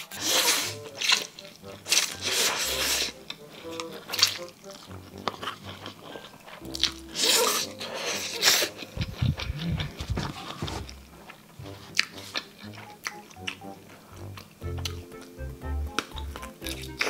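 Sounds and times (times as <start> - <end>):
biting and chewing sausage: 0.0 - 17.0
soft background music: 0.0 - 17.0.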